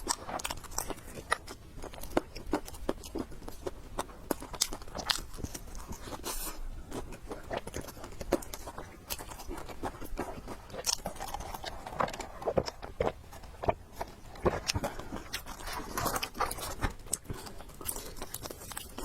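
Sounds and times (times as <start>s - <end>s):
person chewing and biting food: 0.0s - 19.0s.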